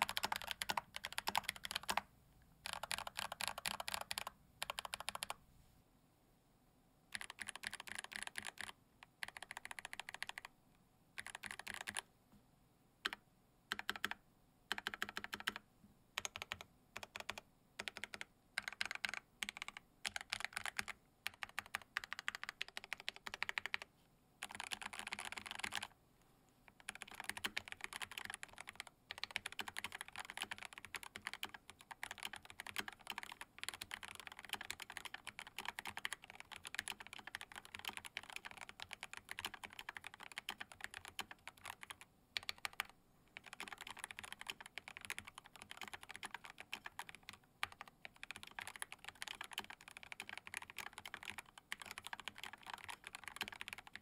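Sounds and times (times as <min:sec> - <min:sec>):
keyboard typing: 0:00.0 - 0:05.4, 0:07.1 - 0:10.5, 0:11.2 - 0:12.1, 0:13.0 - 0:15.6, 0:16.2 - 0:26.0, 0:26.7 - 0:54.0.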